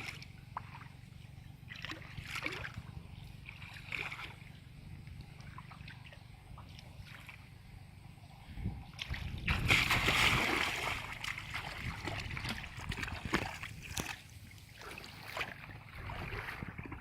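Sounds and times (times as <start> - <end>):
water splashing and sloshing: 0.0 - 7.7, 8.8 - 17.0.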